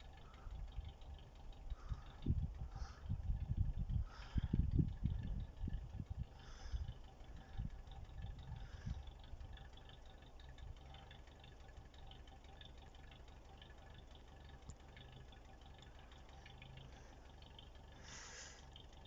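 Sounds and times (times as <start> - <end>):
faint low hum: 0.0 - 19.0
faint ticks: 0.0 - 19.0.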